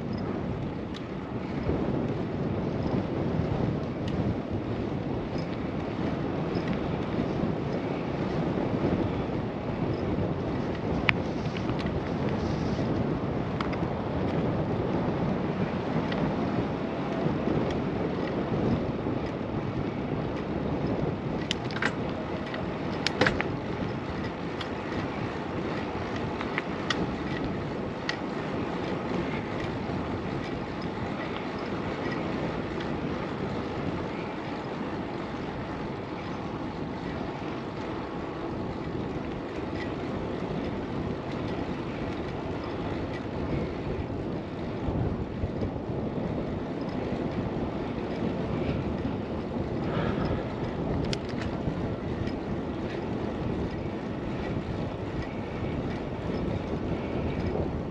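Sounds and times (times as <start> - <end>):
bicycle road noise: 0.0 - 57.9
wind on microphone: 0.0 - 57.9.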